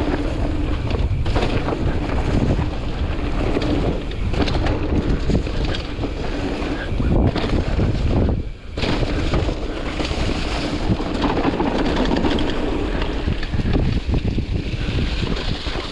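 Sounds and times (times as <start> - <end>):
bike tyres on leaves and dirt: 0.0 - 15.9
wind rushing over microphone: 0.0 - 15.9.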